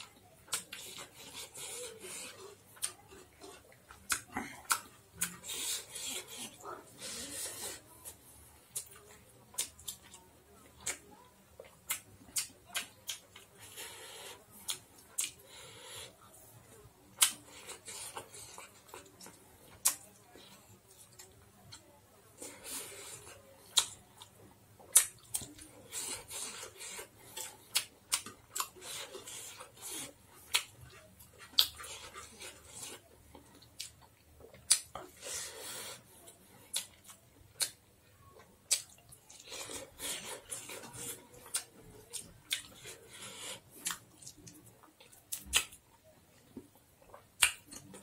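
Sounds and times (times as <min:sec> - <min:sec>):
chewing and lip-smacking: 0:00.0 - 0:16.1, 0:17.1 - 0:48.0.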